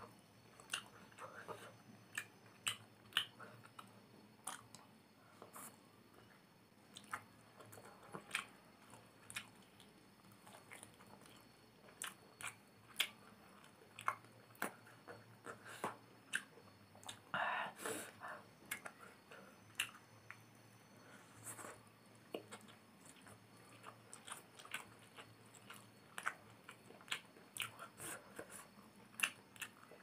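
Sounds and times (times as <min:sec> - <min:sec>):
person chewing noodles: 0:00.6 - 0:04.8, 0:05.4 - 0:17.3, 0:18.6 - 0:20.4, 0:21.5 - 0:30.0.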